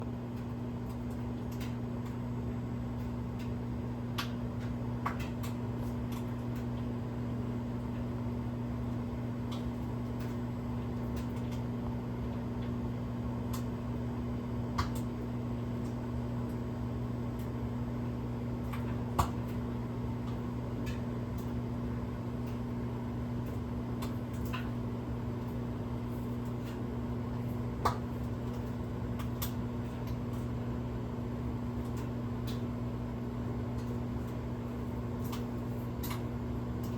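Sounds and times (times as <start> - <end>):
microwave oven humming: 0.0 - 36.9.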